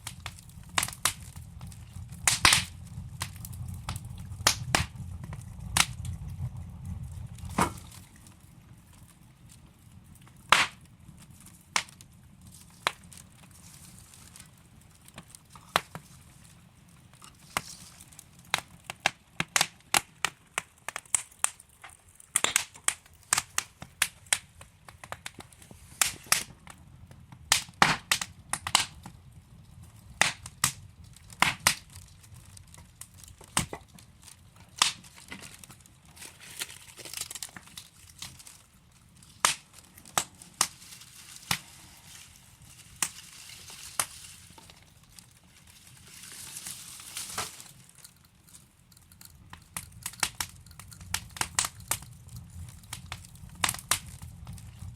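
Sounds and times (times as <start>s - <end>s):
low rush of flame: 0.0s - 54.9s
wood fire popping and snapping: 0.0s - 54.9s.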